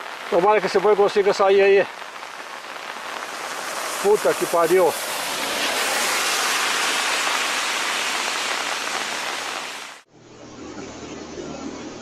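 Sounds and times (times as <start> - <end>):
fast river current rushing: 0.0 - 10.1.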